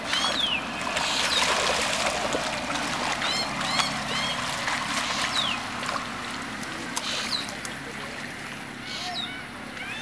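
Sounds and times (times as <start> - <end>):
water splashing and sloshing: 0.0 - 8.9.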